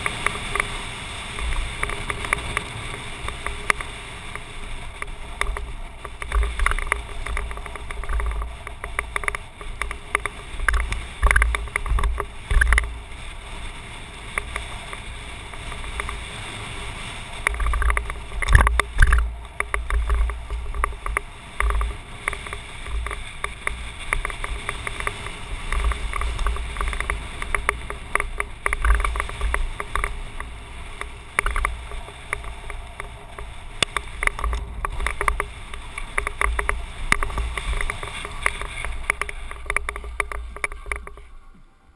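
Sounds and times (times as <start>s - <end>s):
bike rattling over bumps: 0.0s - 41.9s
wind rumbling on microphone: 0.0s - 41.9s.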